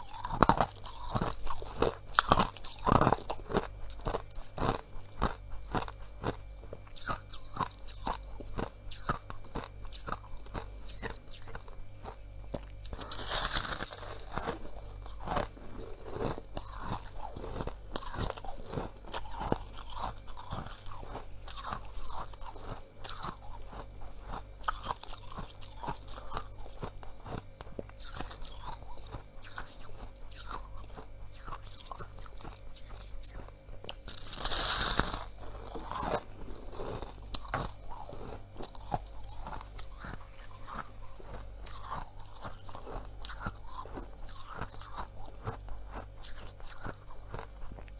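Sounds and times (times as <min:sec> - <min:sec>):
chewing frost crunches: 0:00.0 - 0:47.9.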